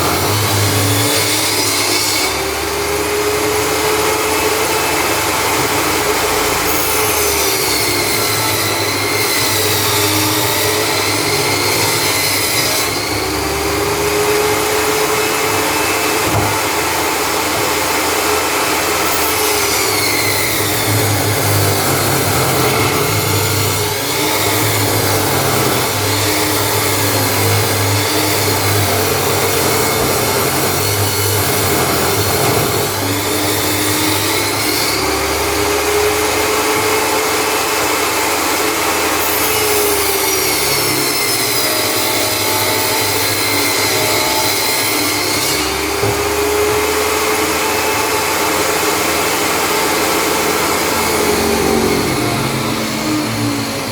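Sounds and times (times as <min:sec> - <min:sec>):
table saw cutting wood: 0:00.0 - 0:53.9.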